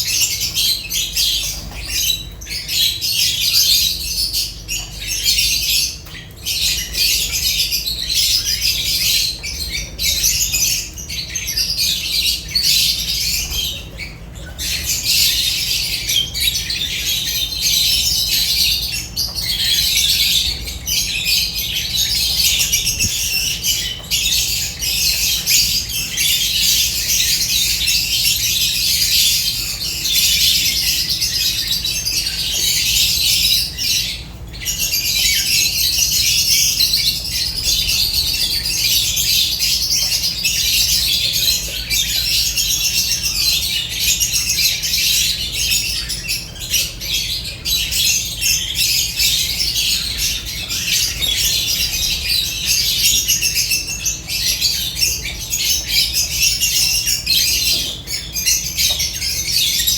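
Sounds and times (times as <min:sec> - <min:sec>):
lovebirds chattering and squawking: 0:00.0 - 0:59.9.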